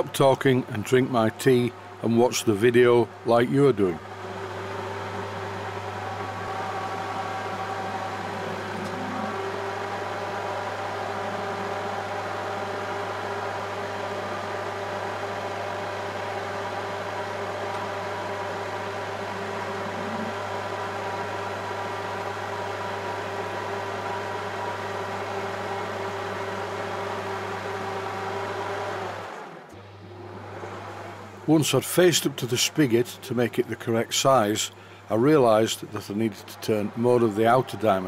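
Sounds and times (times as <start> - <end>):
lathe motor hum with whine: 0.0 - 38.0.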